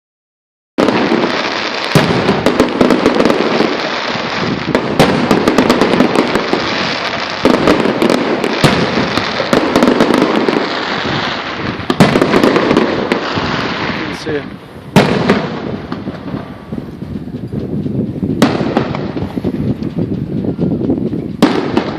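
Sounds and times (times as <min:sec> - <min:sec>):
fireworks bangs and crackles: 0:00.8 - 0:21.9.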